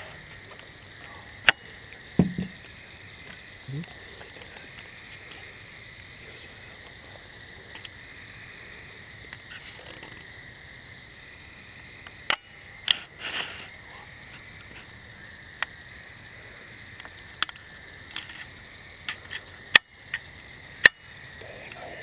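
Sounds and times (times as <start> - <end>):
insect chorus buzzing: 0.0 - 22.0.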